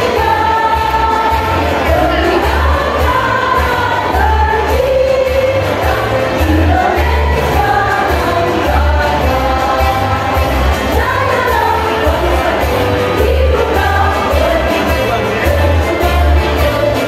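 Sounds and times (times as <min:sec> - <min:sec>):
accompaniment with deep bass: 0:00.0 - 0:17.0
women's choir singing: 0:00.0 - 0:17.0.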